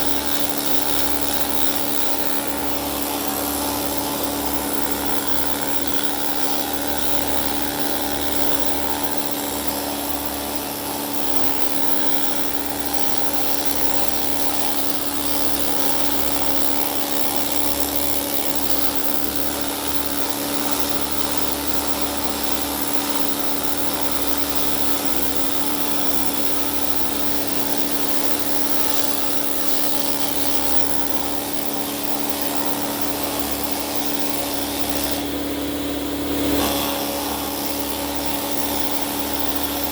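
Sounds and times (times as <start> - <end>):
pneumatic needle scaler hammering: 0.0 - 39.9.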